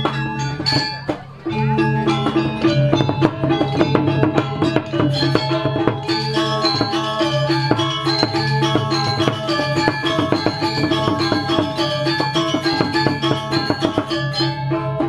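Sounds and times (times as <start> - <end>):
drum strokes: 0.0 - 15.0
gamelan metallophones ringing: 0.0 - 15.0.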